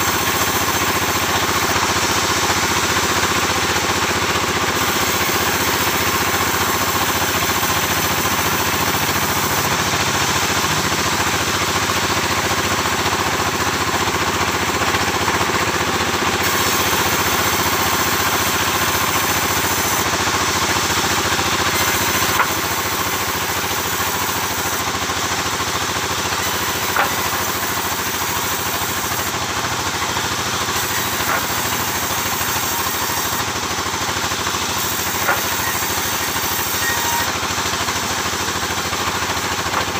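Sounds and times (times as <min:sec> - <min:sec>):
engine-driven sawmill running: 0:00.0 - 0:39.9.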